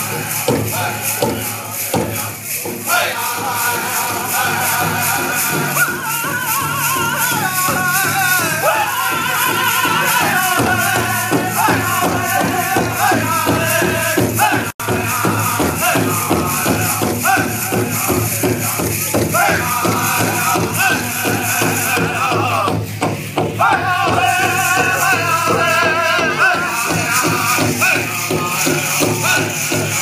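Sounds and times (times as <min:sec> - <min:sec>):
group singing in high voices: 0:00.0 - 0:22.8, 0:23.4 - 0:30.0
big drum beat: 0:00.0 - 0:30.0.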